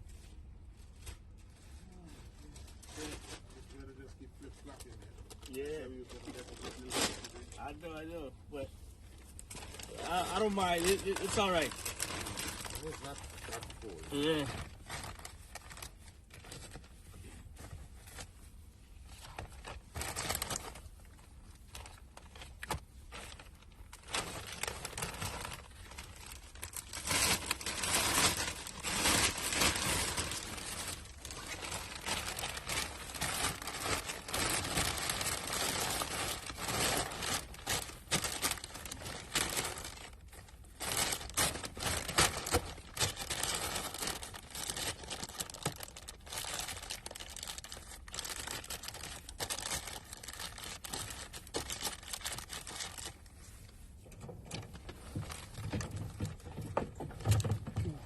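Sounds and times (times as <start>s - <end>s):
plastic bag crinkling: 0.0s - 58.0s.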